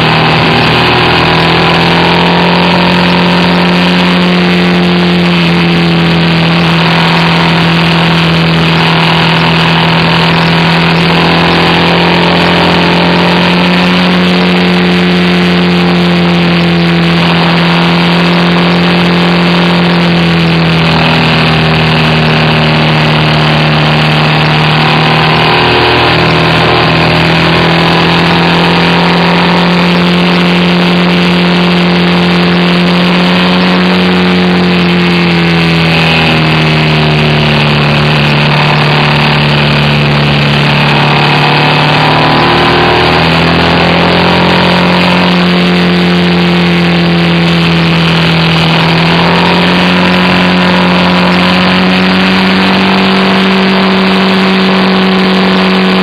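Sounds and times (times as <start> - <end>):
constant rushing noise: 0.0 - 56.0
motorcycle engine running: 0.0 - 56.0.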